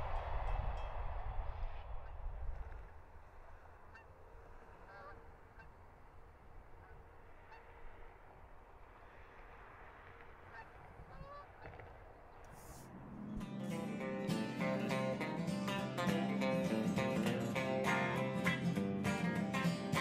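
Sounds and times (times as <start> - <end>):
low steady rumble: 0.0 - 16.3
faint geese honking: 2.0 - 20.0.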